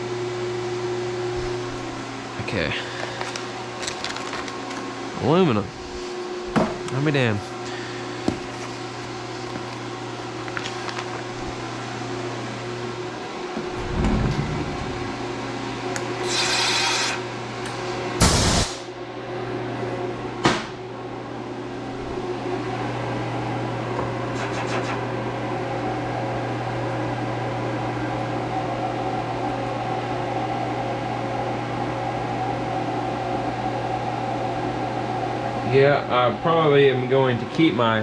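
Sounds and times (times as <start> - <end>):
machine humming: 0.0 - 38.0.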